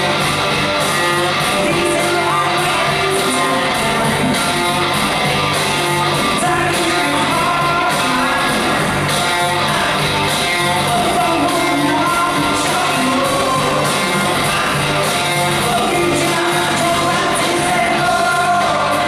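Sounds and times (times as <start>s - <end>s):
drums: 0.0s - 19.0s
electric guitars: 0.0s - 19.0s
male singer: 1.2s - 4.9s, 6.2s - 10.0s, 10.7s - 19.0s.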